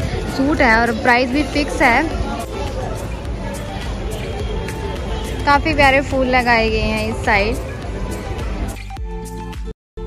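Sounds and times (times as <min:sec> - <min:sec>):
background music with steady beat: 0:00.0 - 0:09.7.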